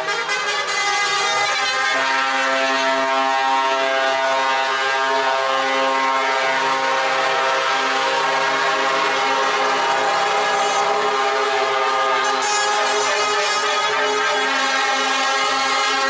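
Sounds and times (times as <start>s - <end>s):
truck air horns: 0.0s - 16.0s.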